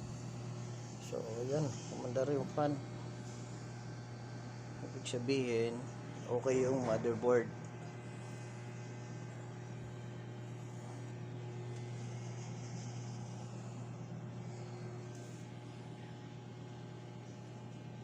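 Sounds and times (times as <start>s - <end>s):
computer fan humming: 0.0s - 18.0s.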